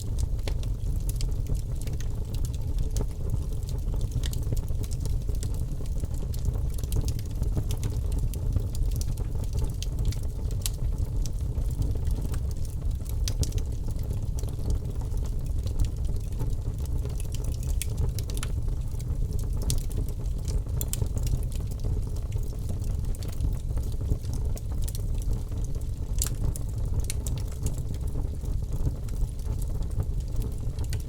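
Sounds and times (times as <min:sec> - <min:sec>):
fire burning in fireplace: 0:00.0 - 0:31.0
fire crackling and popping: 0:00.0 - 0:31.0.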